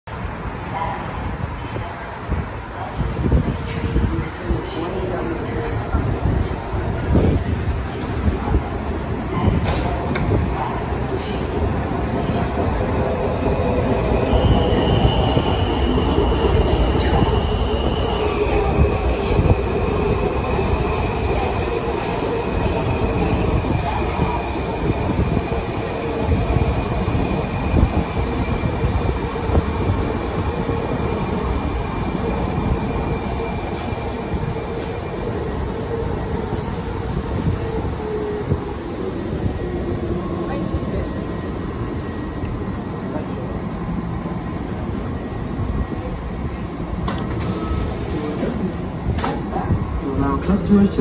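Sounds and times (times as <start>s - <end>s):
train wheels rumbling on rails: 1.0s - 51.0s.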